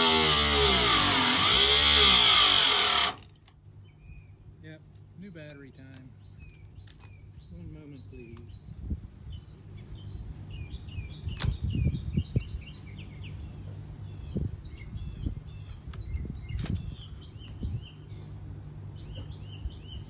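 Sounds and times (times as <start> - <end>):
small birds chirping: 3.7 - 20.0.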